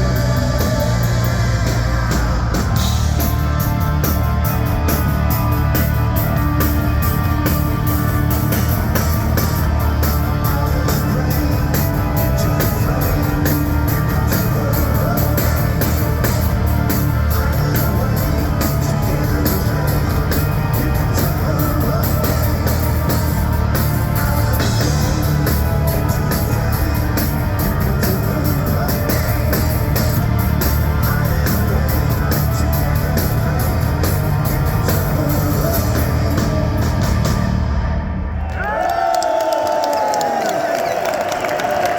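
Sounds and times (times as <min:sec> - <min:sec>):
distorted electric guitar: 0:00.0 - 0:38.4
bass guitar: 0:00.0 - 0:38.8
drum kit: 0:00.0 - 0:38.8.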